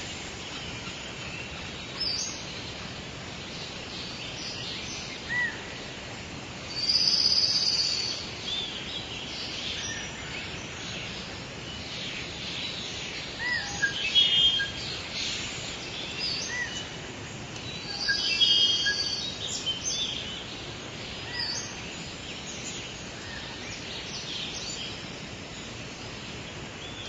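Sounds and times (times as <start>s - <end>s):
birds singing and chirping: 0.0s - 5.6s, 6.7s - 27.0s
outdoor ambient hiss: 0.0s - 27.0s.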